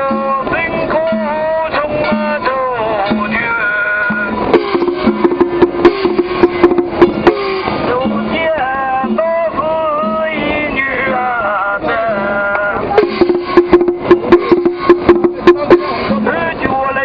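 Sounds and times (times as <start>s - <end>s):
sharp percussion strikes: 0.0s - 10.5s, 12.8s - 16.6s
melody of gliding bending notes: 0.0s - 11.2s, 12.2s - 16.7s.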